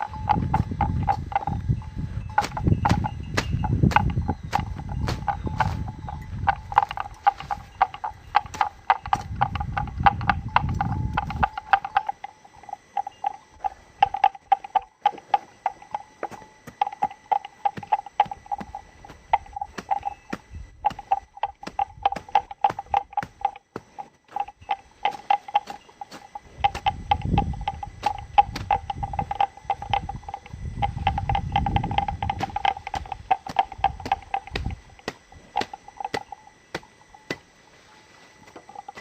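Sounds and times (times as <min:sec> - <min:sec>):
rapid clicks and knocks: 0:02.4 - 0:37.4.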